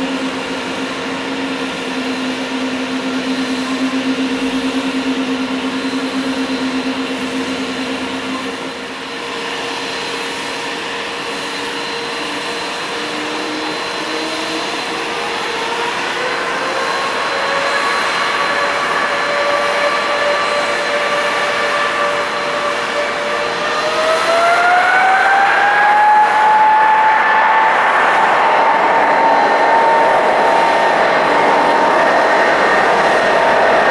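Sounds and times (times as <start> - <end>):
jet engines spooling up: 0.0 - 33.9.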